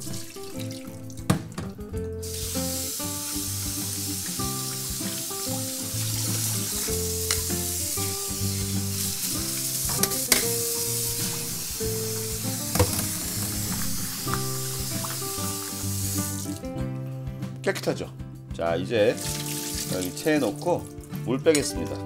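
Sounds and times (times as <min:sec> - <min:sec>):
tap water running: 0:00.0 - 0:16.6, 0:19.0 - 0:21.6
background music with held notes: 0:00.0 - 0:22.0.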